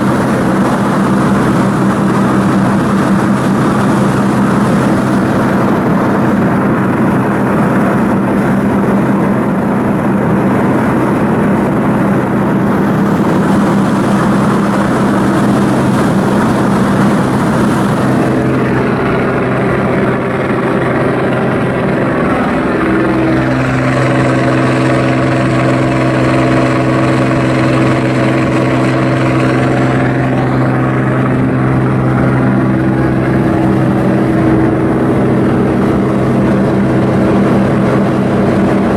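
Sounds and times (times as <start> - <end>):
ship diesel machinery humming: 0.0 - 38.9.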